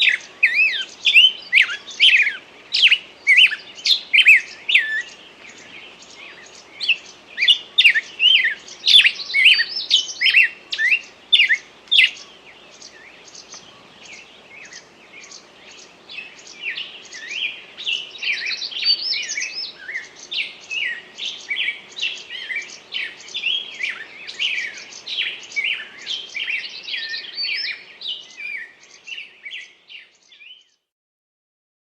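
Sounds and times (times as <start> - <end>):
songbirds chirping and singing: 0.0 - 30.8
faint background hiss: 0.0 - 30.9.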